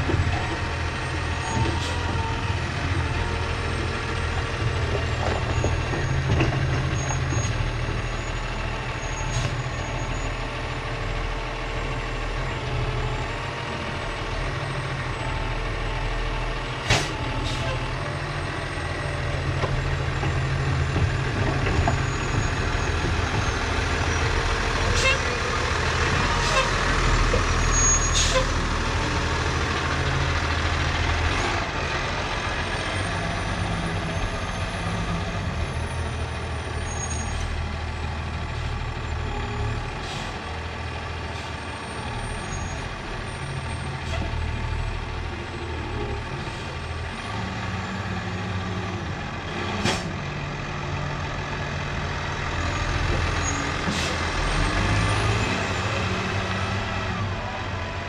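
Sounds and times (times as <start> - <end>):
diesel machinery engine: 0.0 - 58.0.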